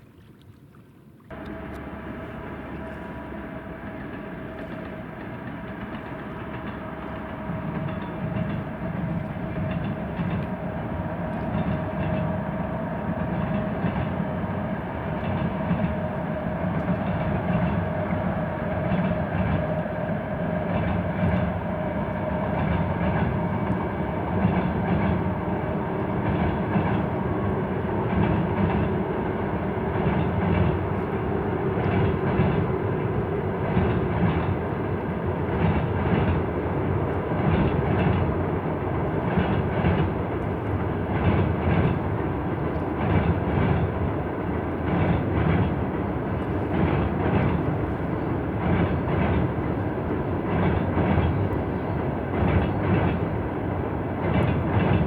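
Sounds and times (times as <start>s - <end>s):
freight train rumbling on bridge: 1.3s - 55.0s
wheels clacking over rail joints: 1.3s - 55.0s.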